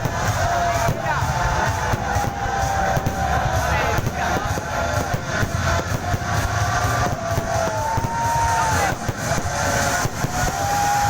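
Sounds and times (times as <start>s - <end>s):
fireworks crackling and popping: 0.0s - 11.0s
fireworks whistles: 0.0s - 11.0s
low rumble: 0.0s - 11.0s.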